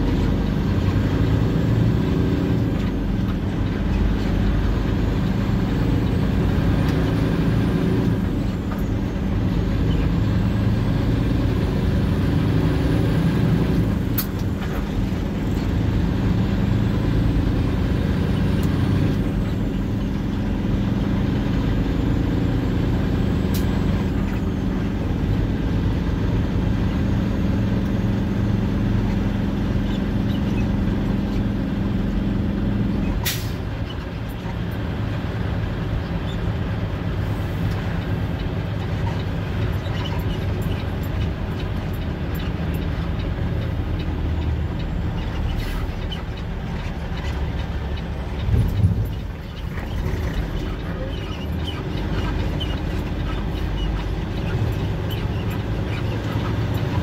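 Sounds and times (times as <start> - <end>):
road noise: 0.0 - 57.0
truck engine running: 0.0 - 57.0.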